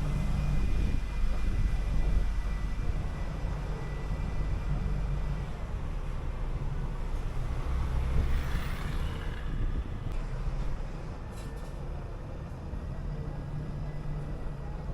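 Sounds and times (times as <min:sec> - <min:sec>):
bus engine rumble: 0:00.0 - 0:14.9
road noise: 0:00.0 - 0:14.9.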